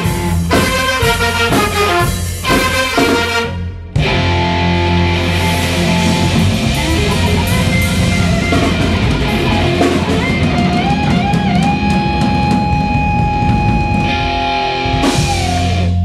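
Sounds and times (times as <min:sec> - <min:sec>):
guitar note sliding up: 0:00.0 - 0:16.0
rock band playing: 0:00.0 - 0:16.0.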